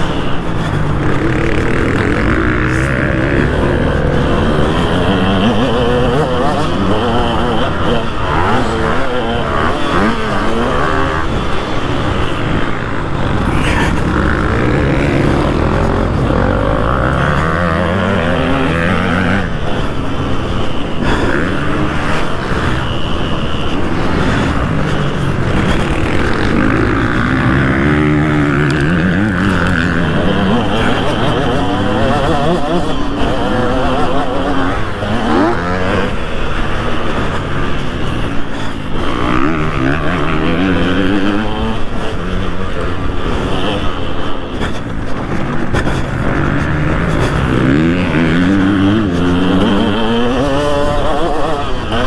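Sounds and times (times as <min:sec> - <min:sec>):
two-stroke motocross engine revving: 0:00.0 - 0:52.0.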